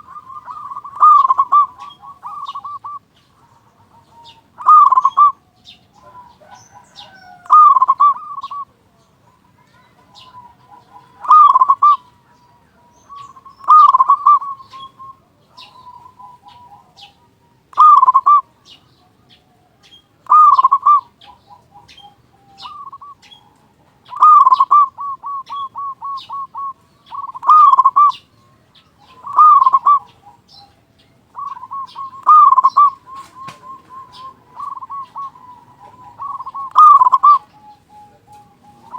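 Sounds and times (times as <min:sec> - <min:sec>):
dove cooing: 0:00.0 - 0:38.9
faint high bird chirps: 0:00.0 - 0:38.9.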